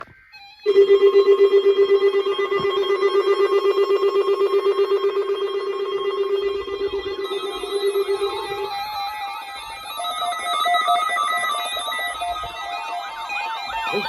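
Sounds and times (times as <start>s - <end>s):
pulsing electronic alarm tone: 0.0s - 14.0s.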